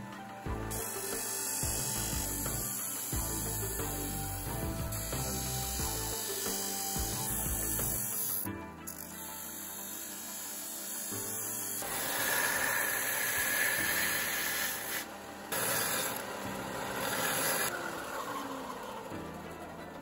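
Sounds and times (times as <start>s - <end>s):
background music: 0.0s - 20.0s
belt sander grinding wood: 0.0s - 20.0s.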